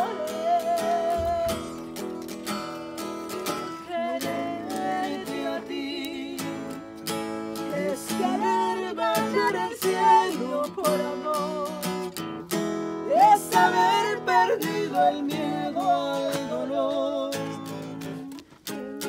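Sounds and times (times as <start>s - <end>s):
person singing: 0.0s - 2.2s, 3.4s - 6.8s, 7.6s - 12.1s, 13.0s - 19.0s
acoustic guitar strumming: 0.0s - 19.0s.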